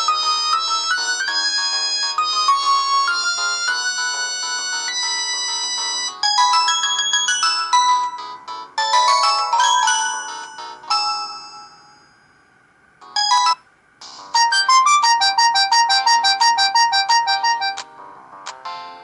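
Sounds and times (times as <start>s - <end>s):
phone ringtone melody: 0.0s - 17.8s, 18.6s - 19.0s.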